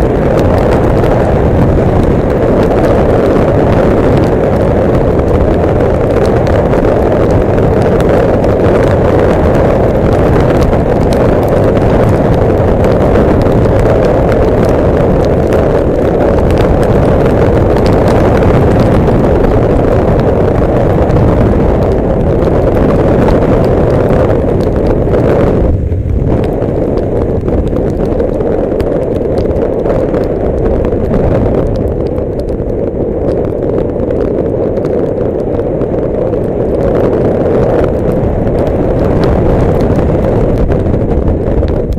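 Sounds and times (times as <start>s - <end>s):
raindrops ticking on camera: 0.0s - 41.9s
wind and rain rushing: 0.0s - 41.9s.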